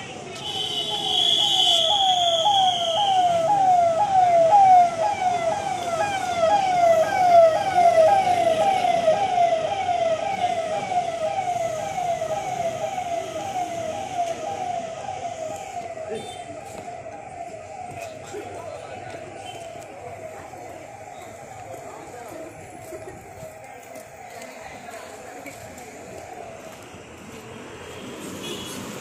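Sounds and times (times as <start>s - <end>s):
electronic vehicle siren wailing: 0.8s - 27.2s.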